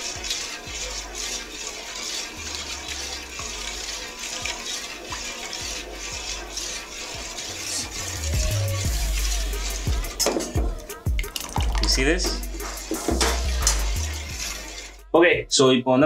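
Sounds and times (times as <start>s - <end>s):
liquid trickling: 0.0s - 15.1s
milk sloshing in pot: 0.0s - 15.1s.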